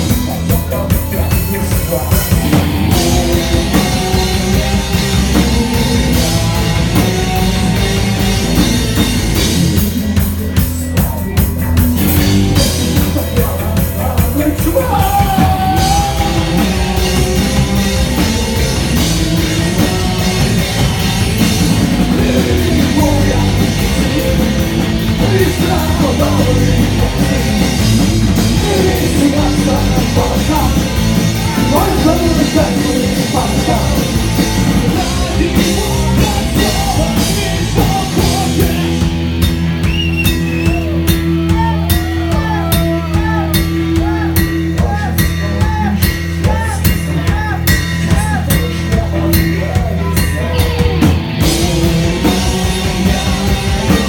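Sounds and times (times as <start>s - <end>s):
person singing: 0.0s - 39.9s, 40.5s - 54.0s
bass guitar: 0.0s - 54.0s
drum kit: 0.0s - 54.0s
electric guitars: 0.0s - 54.0s
punk rock band: 0.0s - 54.0s.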